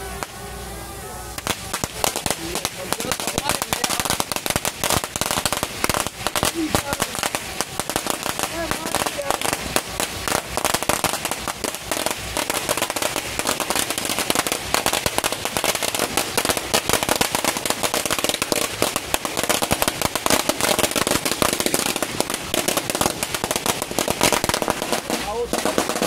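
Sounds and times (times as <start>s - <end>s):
firecrackers crackling: 0.0s - 26.0s.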